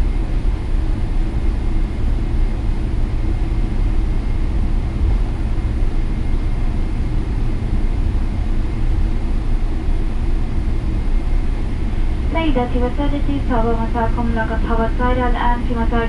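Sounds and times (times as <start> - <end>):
airplane cabin rumble while taxiing: 0.0 - 16.0.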